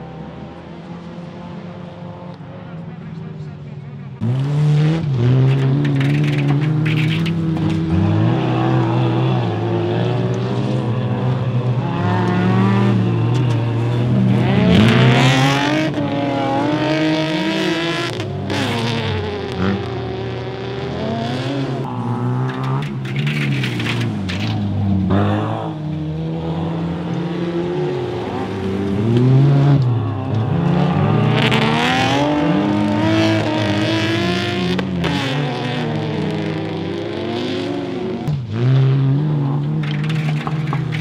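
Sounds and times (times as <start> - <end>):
race car engines revving: 0.0 - 41.0.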